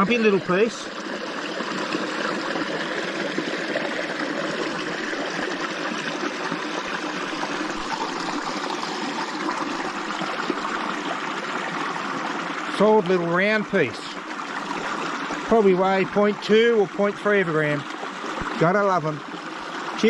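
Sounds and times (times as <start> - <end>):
water running over small waterfall: 0.0 - 20.0.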